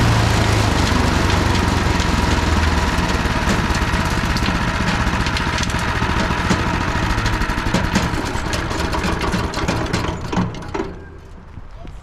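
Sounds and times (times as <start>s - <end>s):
wood chipper engine running: 0.0s - 11.2s.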